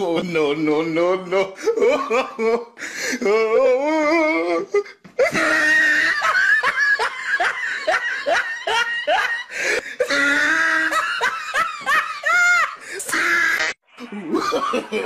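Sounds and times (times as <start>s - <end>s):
person laughing hard: 1.3s - 15.0s.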